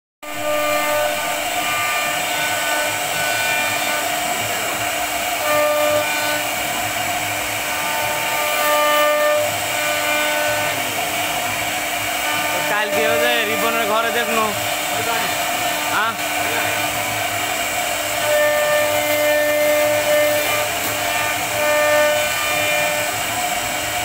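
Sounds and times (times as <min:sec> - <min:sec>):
router spindle cutting wood: 0:00.2 - 0:24.0.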